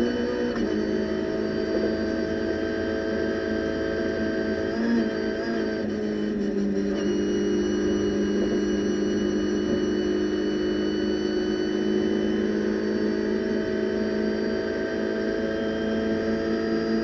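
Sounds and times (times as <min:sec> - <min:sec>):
race car engine at high revs: 0:00.0 - 0:17.0
road and wind noise: 0:00.0 - 0:17.0.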